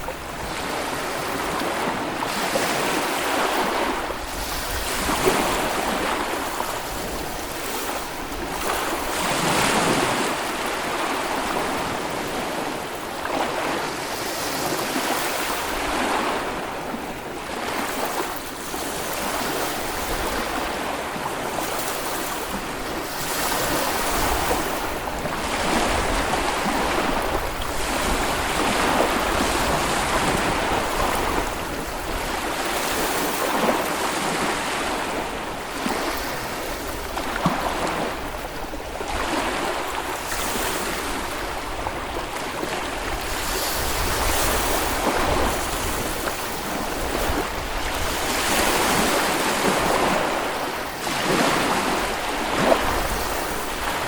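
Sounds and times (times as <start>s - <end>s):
small waves washing on beach: 0.0s - 54.0s.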